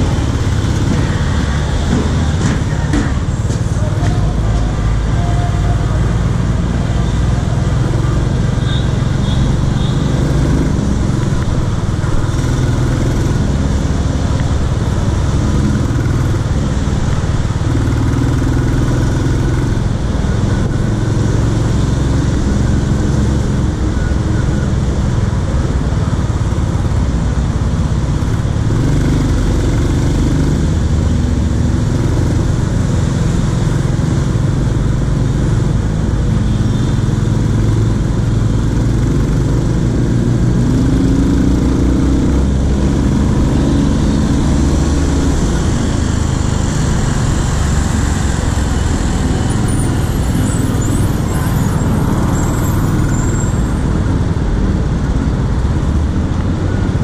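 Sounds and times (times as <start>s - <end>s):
motorcycle engine running: 0.0s - 51.8s
road noise: 0.0s - 57.0s.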